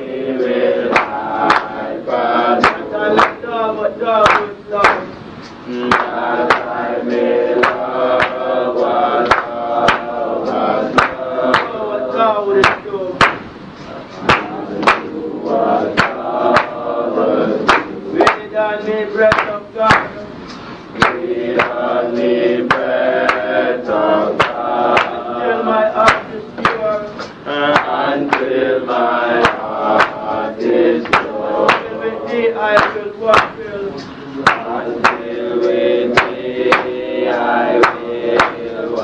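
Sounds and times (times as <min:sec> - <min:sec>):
voices chanting together: 0:00.0 - 0:39.0
sharp percussive strikes: 0:00.2 - 0:03.4, 0:04.2 - 0:39.0.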